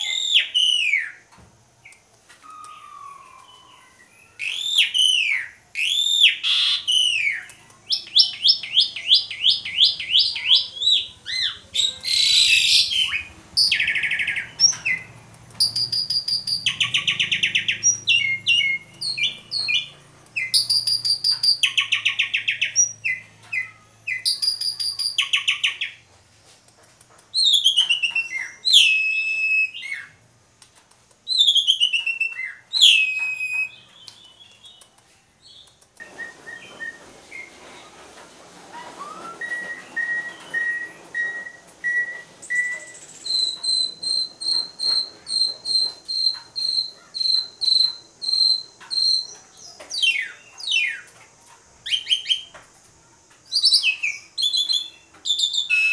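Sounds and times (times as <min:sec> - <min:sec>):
starling singing: 0:00.0 - 0:01.2, 0:02.4 - 0:26.0, 0:27.3 - 0:30.2, 0:31.3 - 0:38.0, 0:38.8 - 0:51.1, 0:53.5 - 0:55.9.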